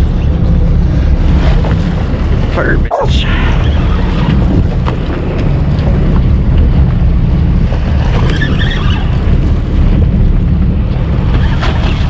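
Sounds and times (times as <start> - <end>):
boat engine running: 0.0 - 12.0
water churning against hull: 0.0 - 12.0
wind buffeting microphone: 0.0 - 12.0.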